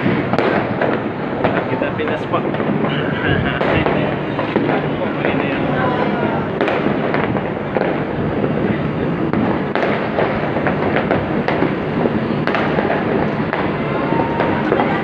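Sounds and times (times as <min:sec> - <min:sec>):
distant fireworks crackling: 0:00.0 - 0:15.0
sharp firework bangs: 0:00.0 - 0:15.0.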